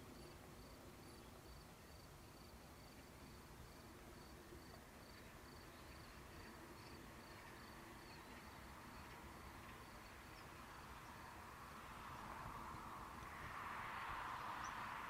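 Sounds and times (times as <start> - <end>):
distant aircraft engine: 0.0 - 15.0
faint cricket chirping: 0.0 - 15.0.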